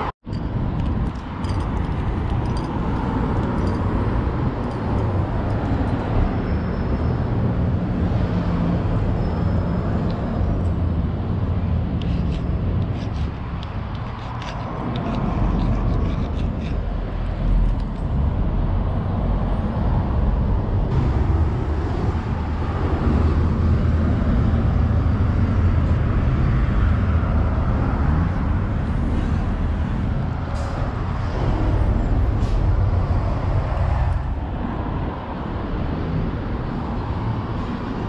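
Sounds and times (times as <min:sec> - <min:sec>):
passing vehicles rumbling: 0:00.0 - 0:38.0.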